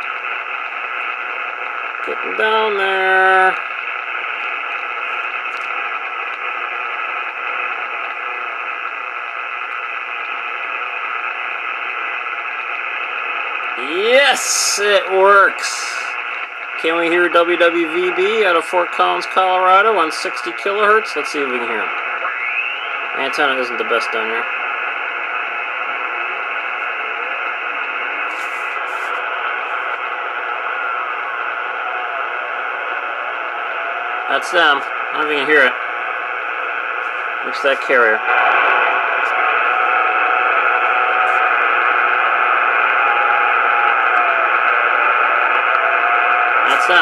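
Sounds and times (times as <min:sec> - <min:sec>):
radio receiver noise rush: 0:00.0 - 0:47.0.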